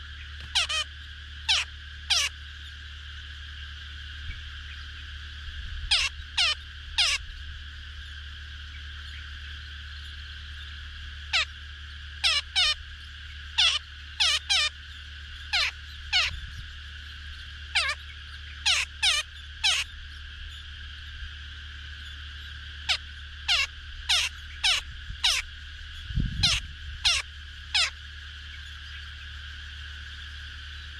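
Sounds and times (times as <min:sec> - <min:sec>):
steady high insect drone: 0:00.0 - 0:30.9.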